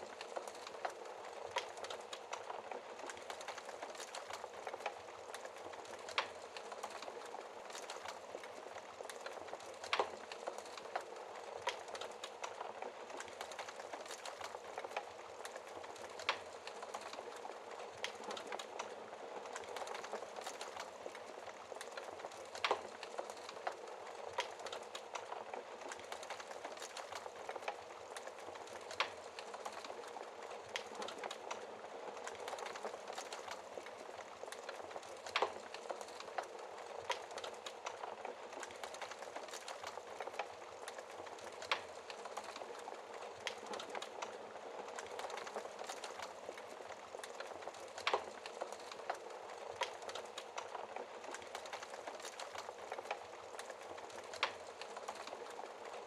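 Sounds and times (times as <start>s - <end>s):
fire crackling: 0.0s - 56.0s
fire popping: 0.0s - 56.0s.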